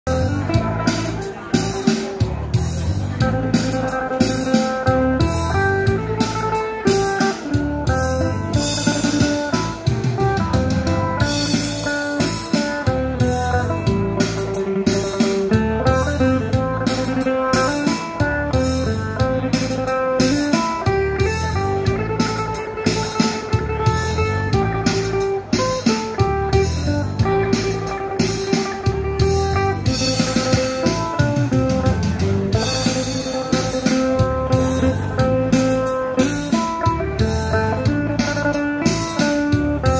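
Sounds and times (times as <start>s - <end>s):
amplified plucked lute melody: 0.1s - 39.9s.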